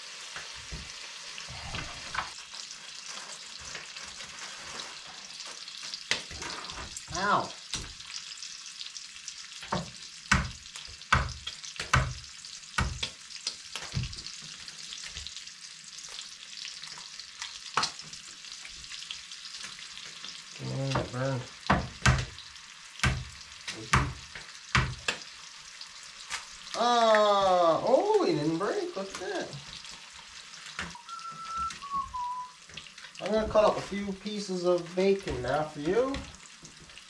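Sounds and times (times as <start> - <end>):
bacon sizzling in a skillet: 0.0 - 37.0.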